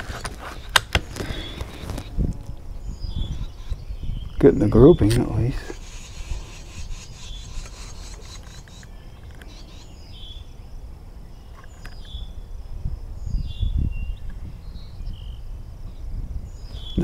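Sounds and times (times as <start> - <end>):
wind rumble on microphone: 0.0 - 17.0
bird chirps: 0.5 - 17.0.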